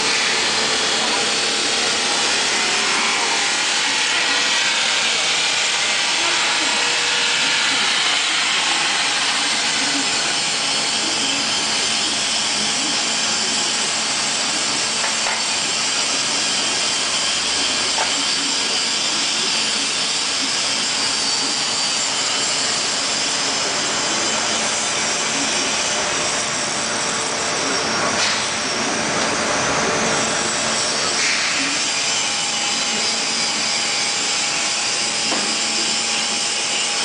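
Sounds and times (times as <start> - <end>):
grinding machine hiss: 0.0 - 37.0.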